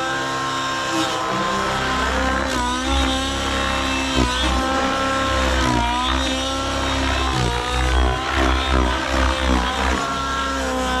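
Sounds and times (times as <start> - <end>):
rc helicopter engine and rotors: 0.0 - 11.0.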